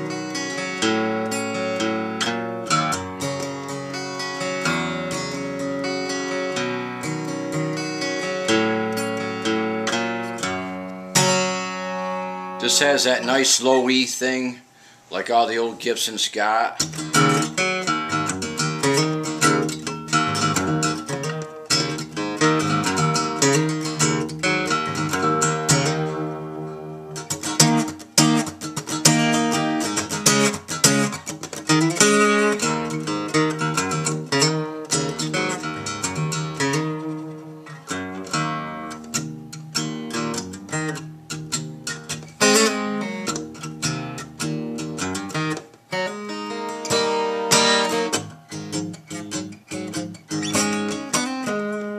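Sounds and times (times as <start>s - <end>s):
acoustic guitar playing: 0.0s - 51.9s.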